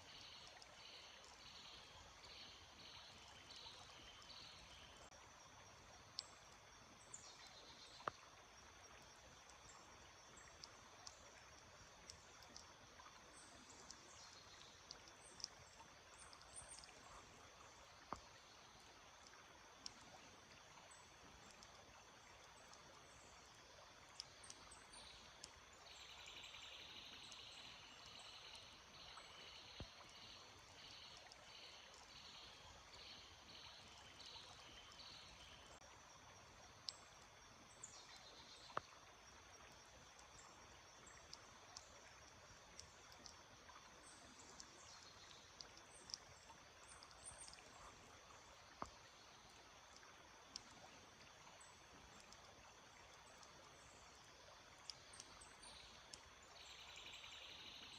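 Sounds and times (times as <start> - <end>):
small stream rushing: 0.0 - 57.9.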